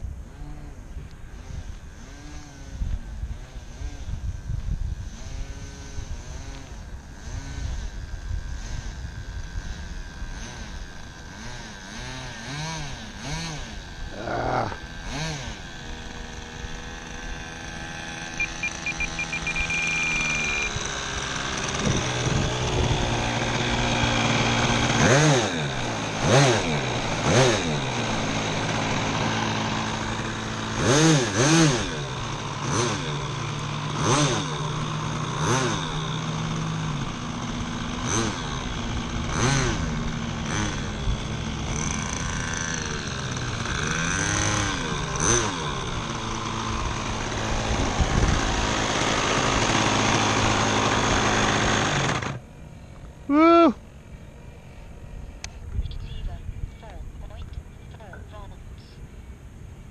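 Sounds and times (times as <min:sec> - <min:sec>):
model airplane engine running: 0:00.0 - 0:55.4.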